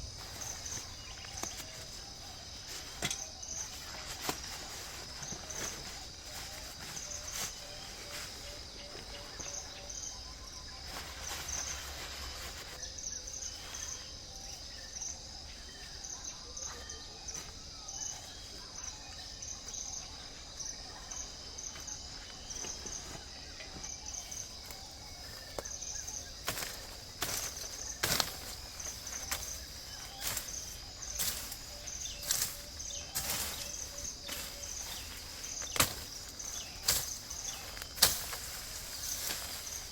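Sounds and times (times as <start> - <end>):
insect chorus chirping: 0.0 - 39.9.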